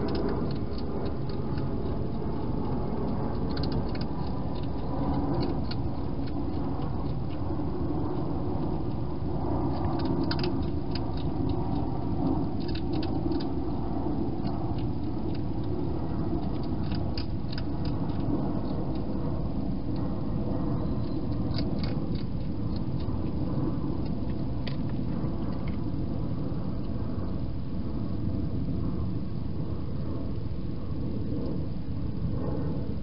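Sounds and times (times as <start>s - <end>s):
hedgehog eating clicks: 0.0s - 28.4s
low rumble: 0.0s - 33.0s.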